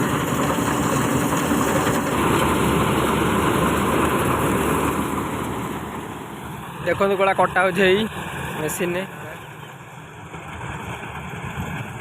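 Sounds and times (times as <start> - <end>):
harvester diesel engine running: 0.0 - 12.0.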